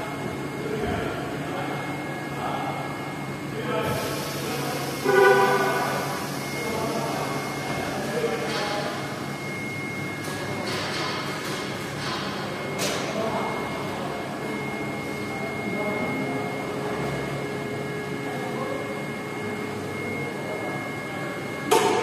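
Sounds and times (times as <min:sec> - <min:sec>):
workshop machine whine: 0:00.0 - 0:22.0.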